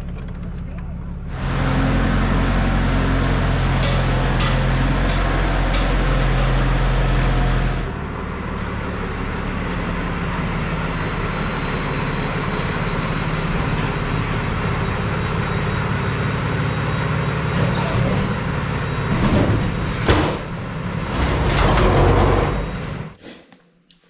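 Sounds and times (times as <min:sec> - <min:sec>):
diesel truck engine running: 0:00.0 - 0:23.2.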